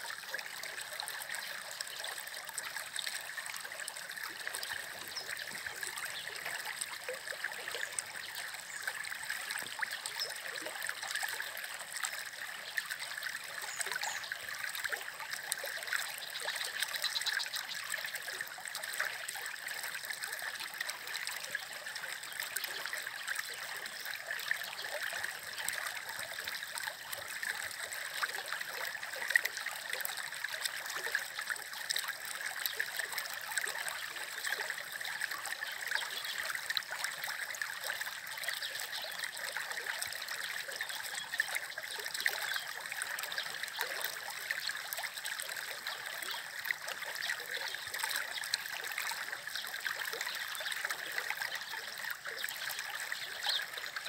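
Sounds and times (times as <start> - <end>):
shallow stream flowing: 0.0 - 54.0
small water splashes: 0.0 - 54.0.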